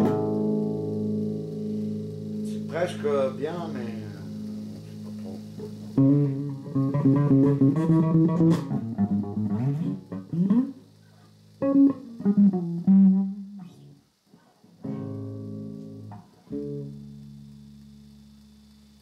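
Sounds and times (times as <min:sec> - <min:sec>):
electric bass guitar plucked: 0:00.0 - 0:14.0, 0:14.8 - 0:18.7.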